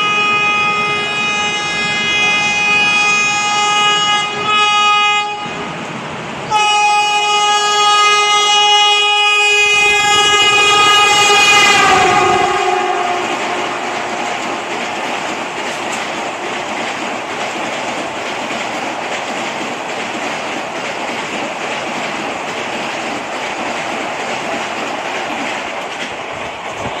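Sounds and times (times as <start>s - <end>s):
train wheels on rail: 0.0s - 27.0s.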